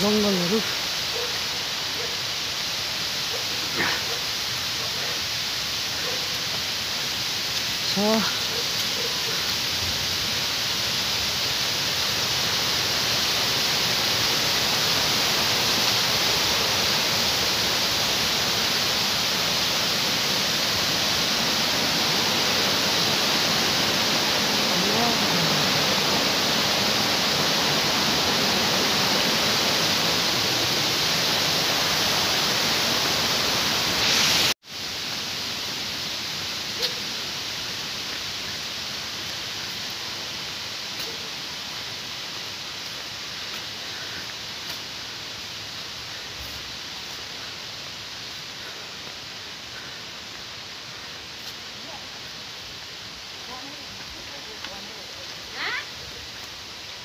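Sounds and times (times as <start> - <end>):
steady hiss: 0.0 - 57.0
waterfall rushing over rocks: 0.0 - 57.0.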